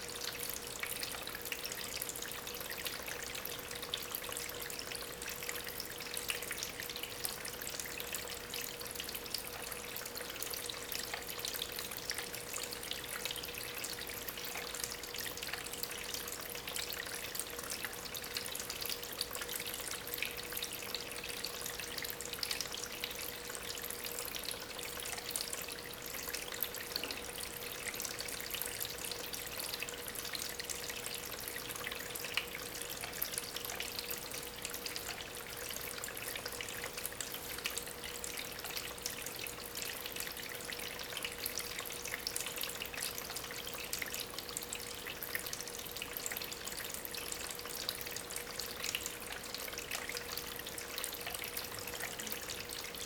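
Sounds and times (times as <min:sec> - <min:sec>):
faint pump hum: 0:00.0 - 0:53.0
water trickling over stones: 0:00.0 - 0:53.0.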